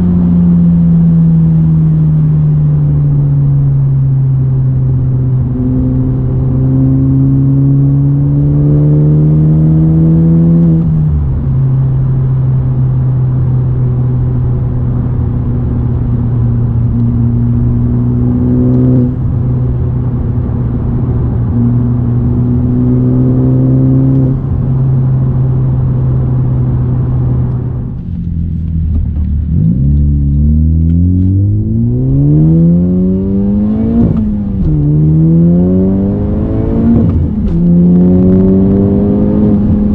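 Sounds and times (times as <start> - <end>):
car engine revving in cabin: 0.0 - 39.9.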